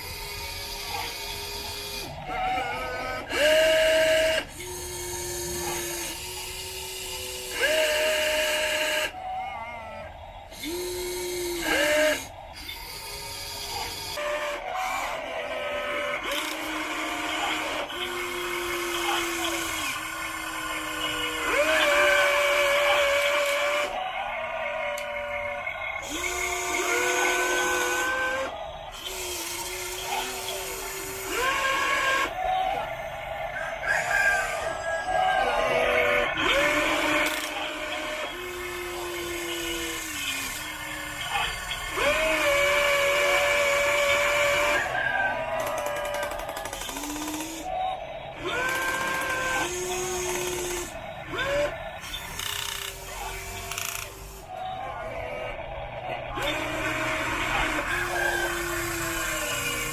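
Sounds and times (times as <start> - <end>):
hydraulic pump whining: 0.0 - 59.9.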